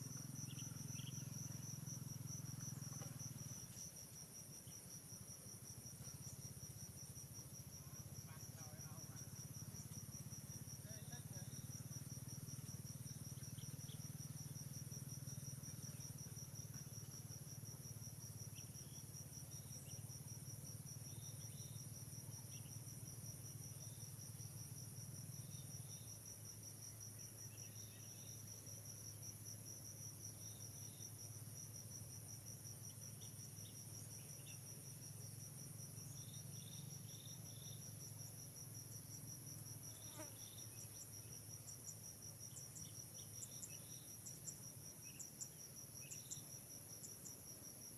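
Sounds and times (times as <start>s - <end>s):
crickets trilling: 0.0s - 47.9s.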